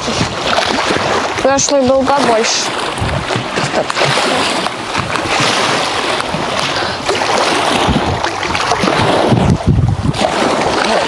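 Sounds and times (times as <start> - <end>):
waves lapping against boat: 0.0 - 11.0
wind on microphone: 0.0 - 11.0.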